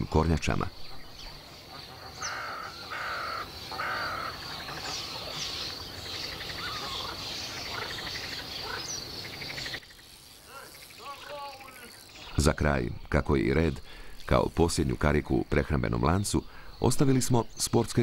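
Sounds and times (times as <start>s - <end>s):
birds calling: 0.0s - 18.0s
high insect trill: 0.0s - 18.0s.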